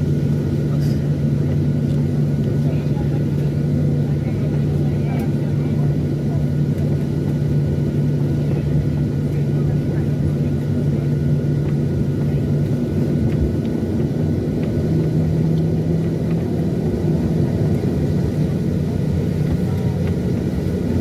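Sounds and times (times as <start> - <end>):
aircraft cabin engine hum: 0.0 - 21.0.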